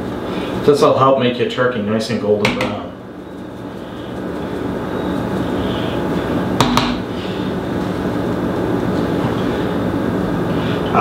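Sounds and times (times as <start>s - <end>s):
droning hum: 0.0s - 11.0s.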